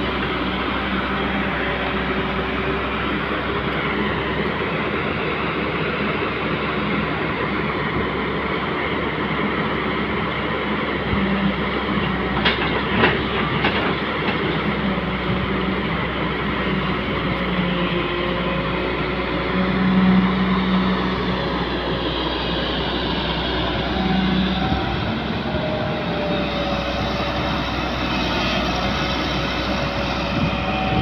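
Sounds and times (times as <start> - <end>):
excavator engine drone: 0.0 - 31.0.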